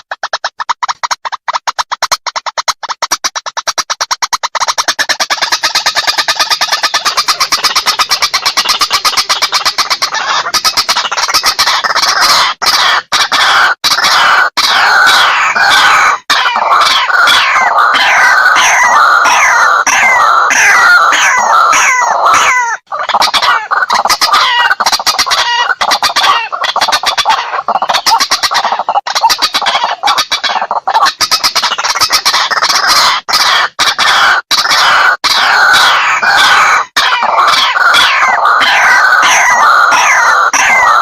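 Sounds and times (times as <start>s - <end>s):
waterhen croaking calls: 0.0s - 41.0s.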